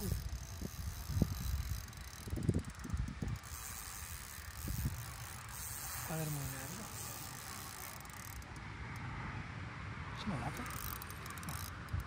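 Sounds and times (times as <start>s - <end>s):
fishing reel clicking whirr: 0.0s - 9.0s, 10.5s - 12.0s.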